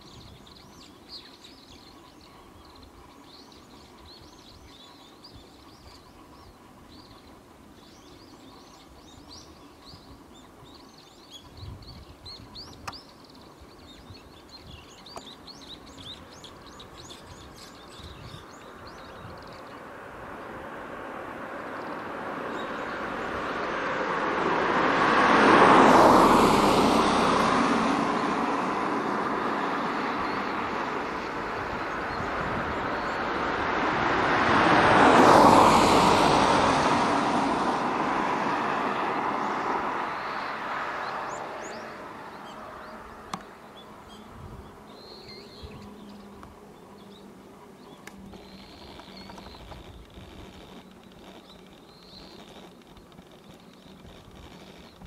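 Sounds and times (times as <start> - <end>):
birds chirping: 0.0 - 55.0
motor vehicles passing: 5.6 - 55.0.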